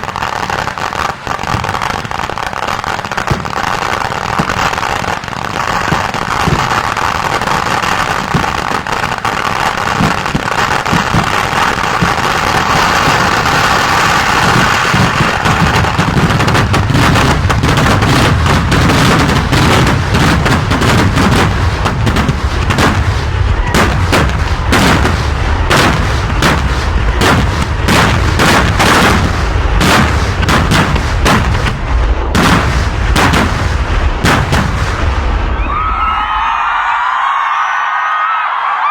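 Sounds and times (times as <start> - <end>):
heavy firework bangs: 0.0 - 37.1
firecrackers crackling: 0.0 - 38.1.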